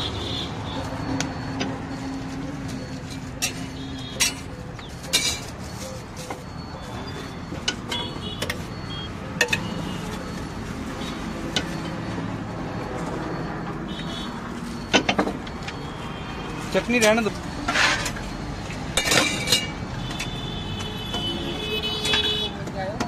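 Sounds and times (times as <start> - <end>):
road traffic hum: 0.0 - 23.0.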